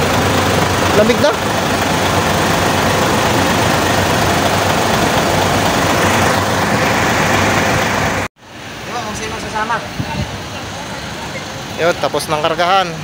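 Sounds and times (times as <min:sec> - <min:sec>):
air conditioning running: 0:00.0 - 0:10.5
truck engine idling: 0:00.0 - 0:13.0.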